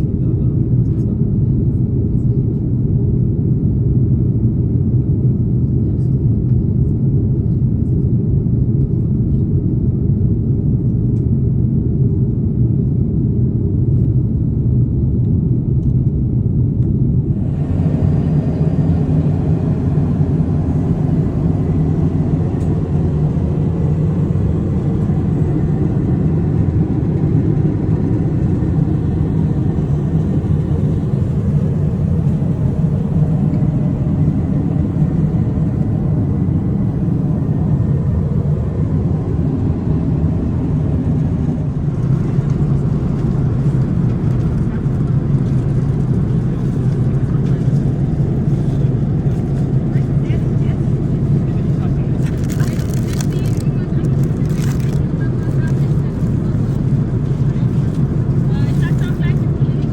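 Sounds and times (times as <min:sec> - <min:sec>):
jet airliner rumble: 0:00.0 - 0:59.9.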